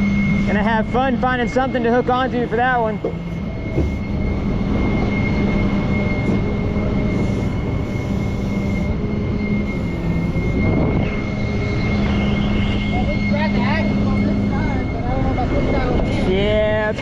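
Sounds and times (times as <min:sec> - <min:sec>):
high-pitched buzz: 0:00.0 - 0:16.9
rumble of running vehicles: 0:00.0 - 0:17.0.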